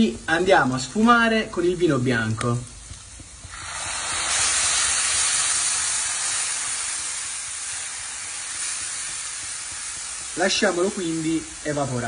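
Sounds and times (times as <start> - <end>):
wine sizzling in a hot pan: 0.0 - 12.0.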